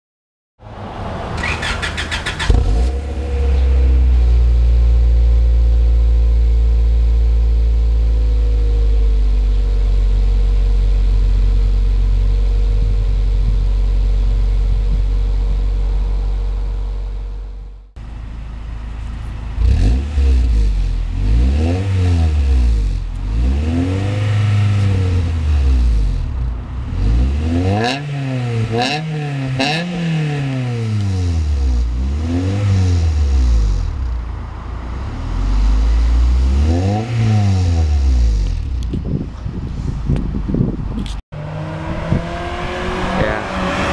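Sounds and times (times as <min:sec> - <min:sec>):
car engine idling and revving: 0:00.6 - 0:43.9.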